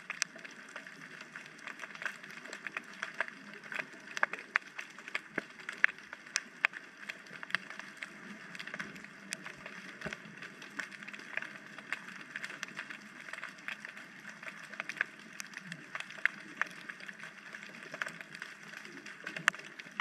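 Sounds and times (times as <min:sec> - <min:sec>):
underwater clicks and crackles: 0:00.0 - 0:20.0.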